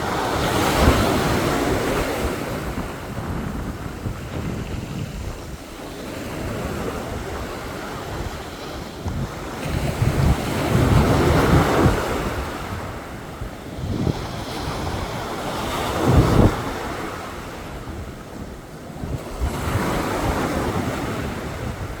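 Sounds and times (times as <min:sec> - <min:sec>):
waves washing onto beach: 0:00.0 - 0:22.0
wind buffeting microphone: 0:00.0 - 0:22.0.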